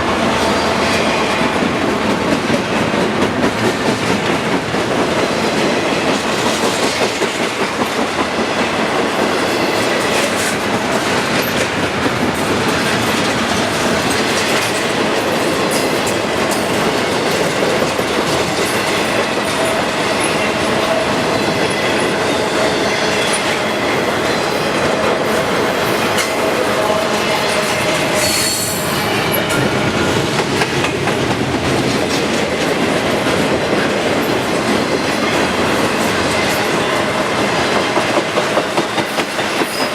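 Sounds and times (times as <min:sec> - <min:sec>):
train wheels rumbling on rails: 0:00.0 - 0:39.9
clickety-clack over rail joints: 0:00.2 - 0:39.9.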